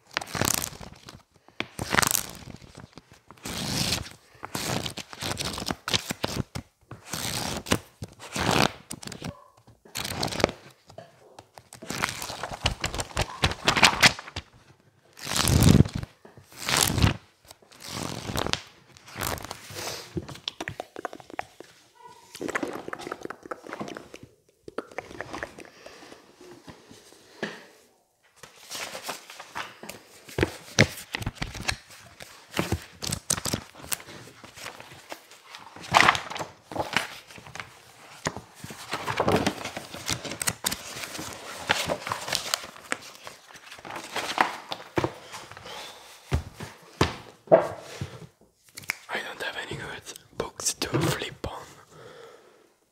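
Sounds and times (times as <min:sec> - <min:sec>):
book pages flipping: 0:00.1 - 0:27.6, 0:28.4 - 0:51.6.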